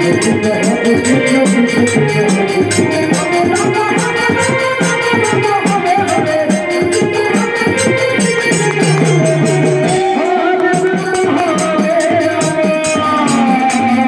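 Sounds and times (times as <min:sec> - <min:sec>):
fast percussion beat with shaker: 0:00.0 - 0:14.0.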